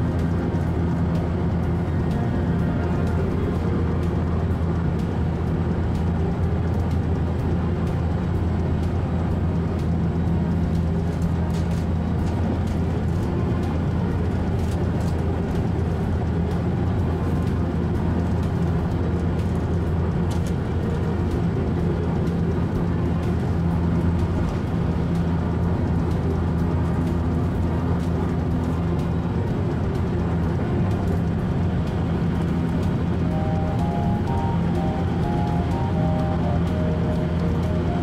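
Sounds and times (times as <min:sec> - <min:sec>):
train rumble from inside car: 0:00.0 - 0:38.0.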